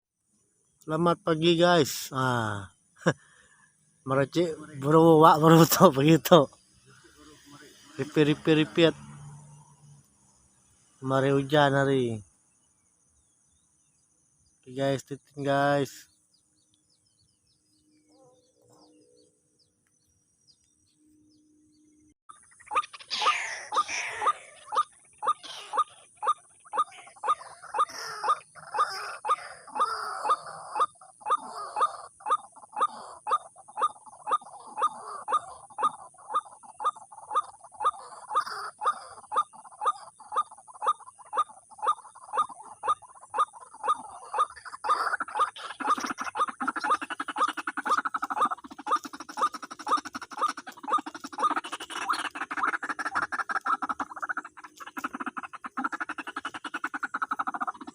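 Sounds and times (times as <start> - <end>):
bird harsh croaking calls: 0.8 - 21.4, 22.3 - 57.9.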